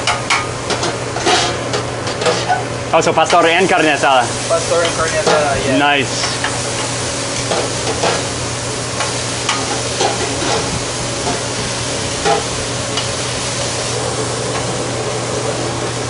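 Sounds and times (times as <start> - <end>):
meat sizzling on a griddle: 0.0 - 16.0
steady low hum: 0.0 - 16.0.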